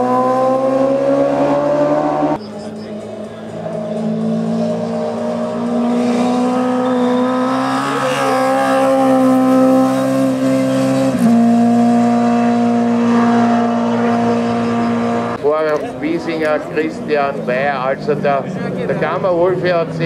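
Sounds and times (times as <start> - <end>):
engine running at high revs: 0.0 - 20.0.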